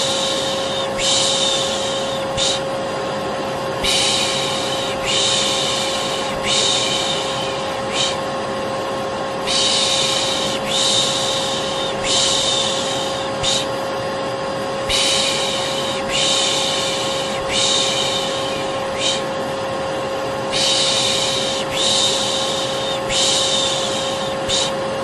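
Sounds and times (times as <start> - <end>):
person shushing: 0.0 - 2.7, 3.8 - 8.3, 9.5 - 13.8, 14.8 - 19.4, 20.5 - 24.8
vacuum cleaner motor whining: 0.0 - 25.0.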